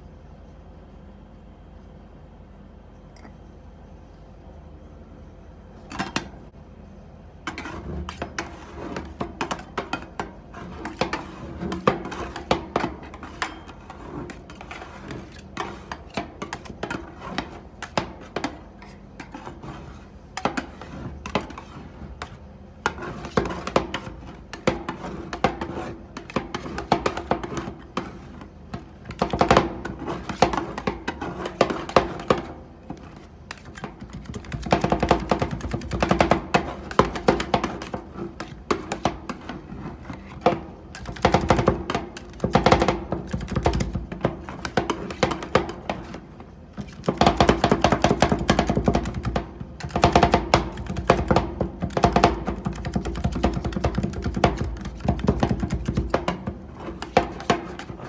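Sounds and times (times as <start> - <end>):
metal spatulas tapping and scraping: 7.5 - 58.0.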